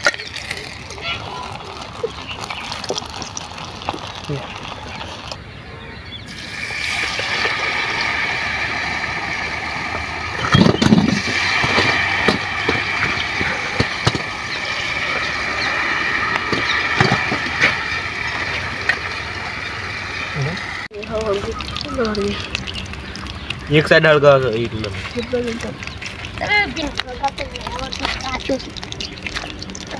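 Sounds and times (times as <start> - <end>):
hot oil sizzling: 0.0 - 5.5, 6.1 - 29.9.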